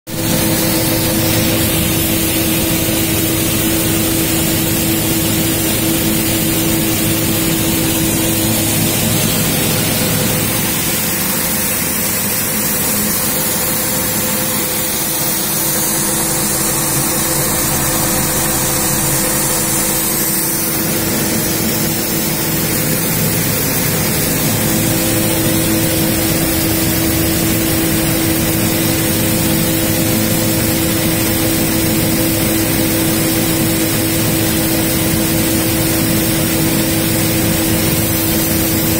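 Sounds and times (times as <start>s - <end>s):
seed cleaning machine running: 0.1s - 38.9s.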